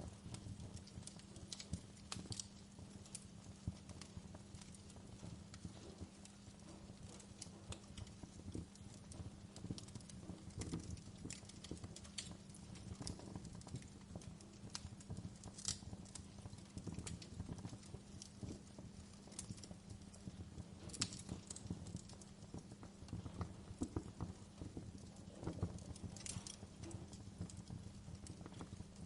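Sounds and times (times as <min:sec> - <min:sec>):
logs crackling and popping: 0:00.0 - 0:29.0
low rumble of flames: 0:00.0 - 0:29.0.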